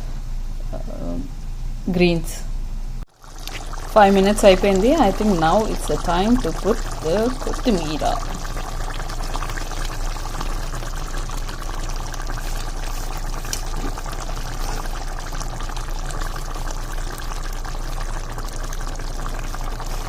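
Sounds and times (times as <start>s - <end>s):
curry bubbling in a pan: 3.1s - 20.0s.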